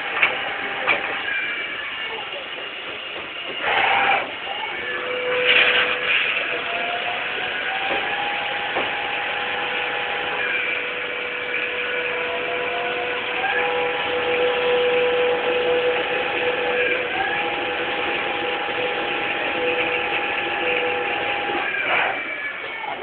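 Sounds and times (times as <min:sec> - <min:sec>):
lathe motor whine: 0:00.0 - 0:23.0
machining noise: 0:00.0 - 0:23.0.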